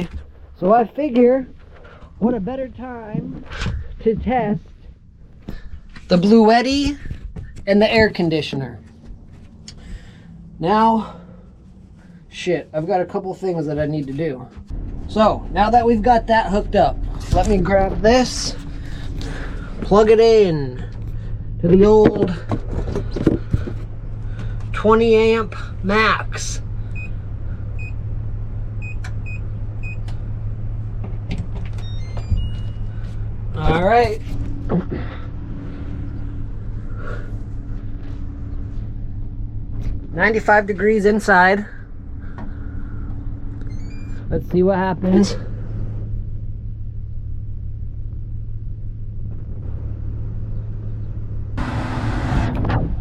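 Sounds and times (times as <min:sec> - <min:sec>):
van engine idling: 0:00.0 - 0:53.0.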